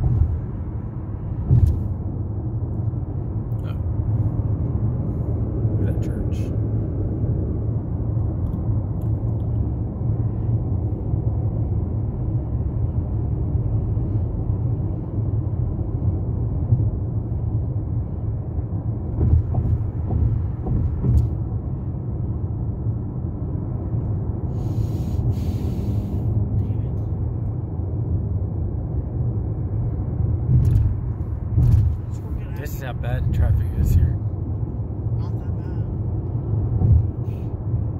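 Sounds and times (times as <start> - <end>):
car cabin road rumble: 0.0 - 37.9.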